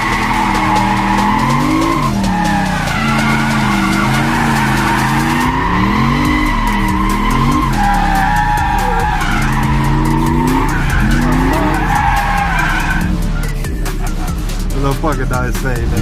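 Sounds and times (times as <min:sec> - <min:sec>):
tyres squealing: 0:00.0 - 0:14.5
car engine revving: 0:00.0 - 0:16.0.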